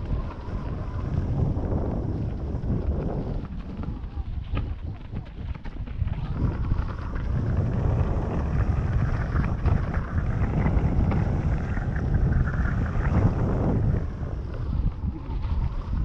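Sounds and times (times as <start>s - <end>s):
tyres rolling over dirt: 0.0s - 16.0s
wind buffeting microphone: 0.0s - 16.0s.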